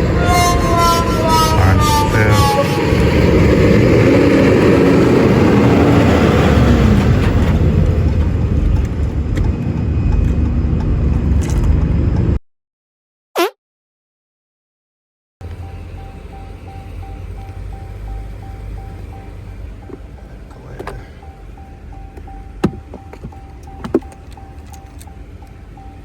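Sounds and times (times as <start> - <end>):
loud vehicle noise: 0.0 - 12.4, 15.4 - 26.0.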